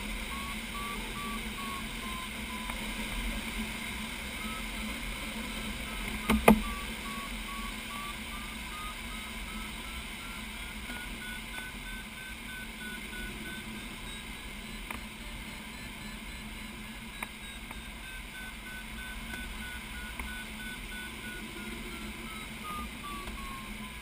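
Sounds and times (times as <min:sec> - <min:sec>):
rush of air in cockpit: 0:00.0 - 0:24.0
variometer beeping: 0:00.0 - 0:24.0.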